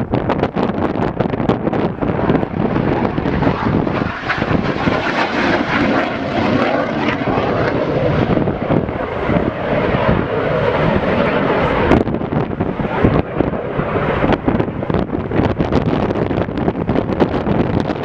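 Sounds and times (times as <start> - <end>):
jet flying past: 0.0 - 18.0.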